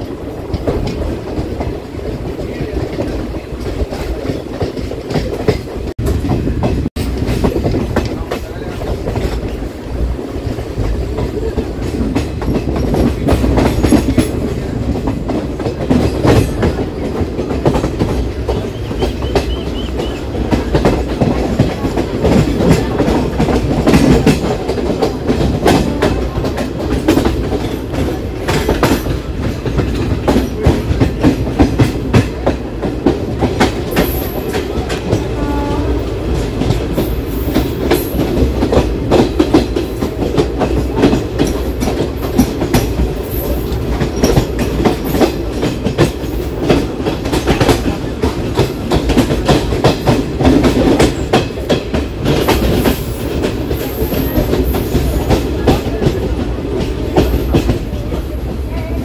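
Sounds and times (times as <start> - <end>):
wheels clattering over rail joints: 0.0 - 58.4
train coach rumble: 0.0 - 59.0.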